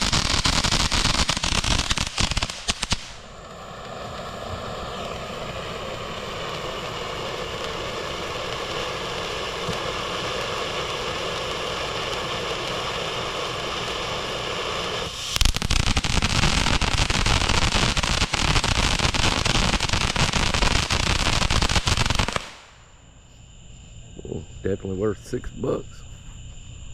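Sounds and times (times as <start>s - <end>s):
firework fountain hissing and crackling: 0.0s - 23.0s.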